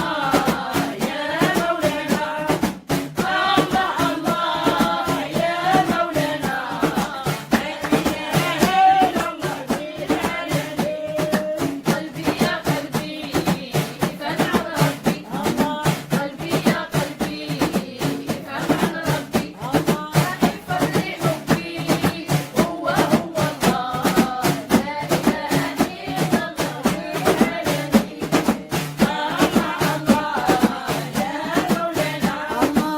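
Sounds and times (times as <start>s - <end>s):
fast percussion beat: 0.0s - 32.9s
voices chanting religious praise: 0.0s - 32.9s.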